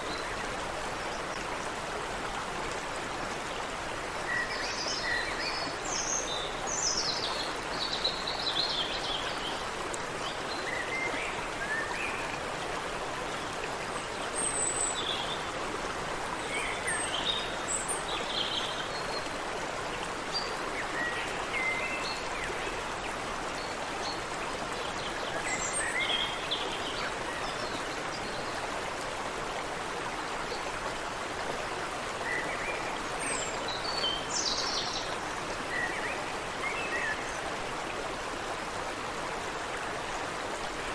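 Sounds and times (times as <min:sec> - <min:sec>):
creek water running: 0:00.0 - 0:40.9.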